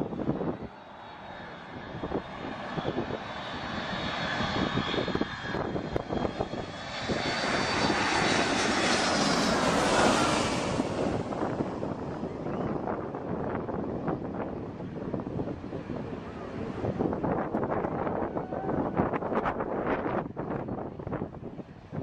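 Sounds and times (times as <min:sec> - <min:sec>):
airplane engines whining: 0:00.0 - 0:22.0.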